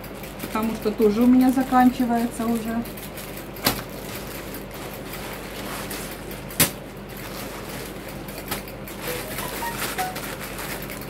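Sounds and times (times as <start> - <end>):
plastic bag rustling: 0.4 - 11.0.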